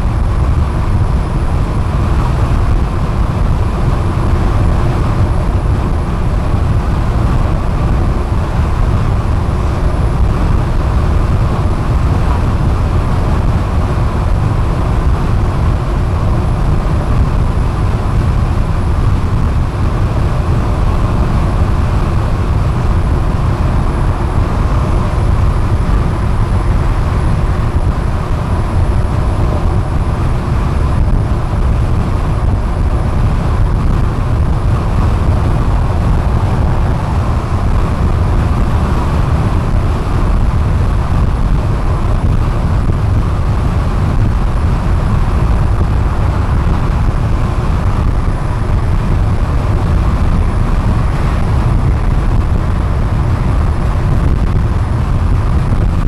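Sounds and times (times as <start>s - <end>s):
car driving at highway speed: 0.0s - 56.0s.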